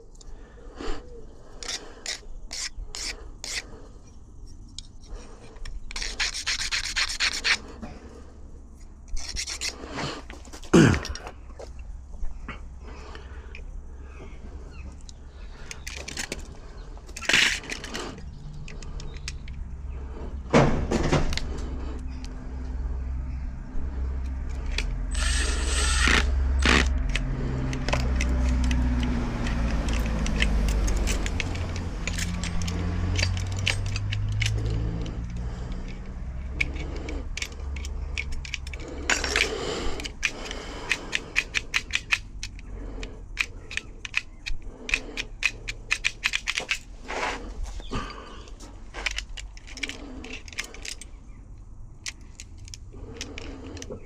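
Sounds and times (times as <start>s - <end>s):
metal parts and tools clinking: 1.4s - 11.8s, 14.7s - 19.7s, 24.2s - 54.0s.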